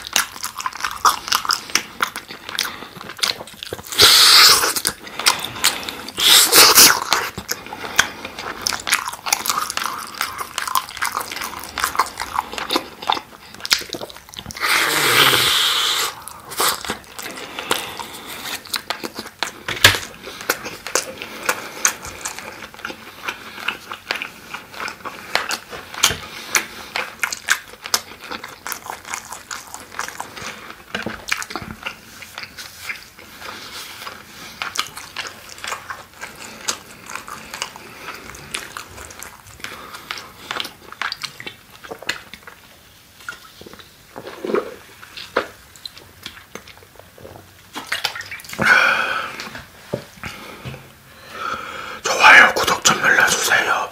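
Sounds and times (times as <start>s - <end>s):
mouth clicks and smacks: 0.0s - 50.9s, 52.0s - 53.9s
biting and wet chewing: 0.0s - 53.9s.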